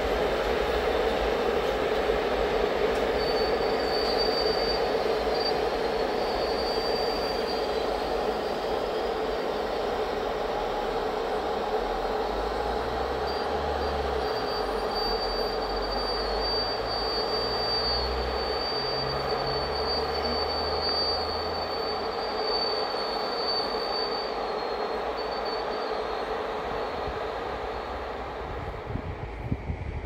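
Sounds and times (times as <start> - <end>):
high wheel squeal: 0.0 - 29.6
freight train rumbling past: 0.0 - 30.0.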